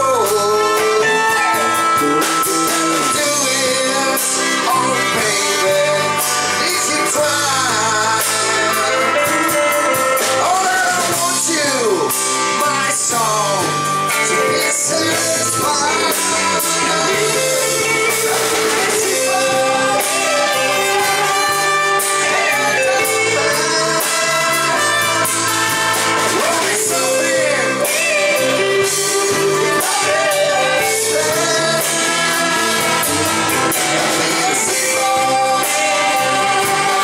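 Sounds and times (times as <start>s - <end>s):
trumpet: 0.0s - 12.9s, 13.9s - 37.0s
acoustic and electric guitars: 0.0s - 37.0s
drums: 0.0s - 37.0s
person singing: 0.0s - 37.0s.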